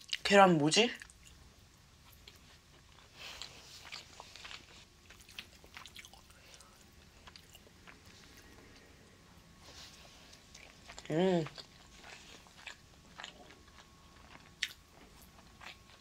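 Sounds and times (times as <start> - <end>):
chewing food: 0.0 - 0.3, 0.9 - 16.0.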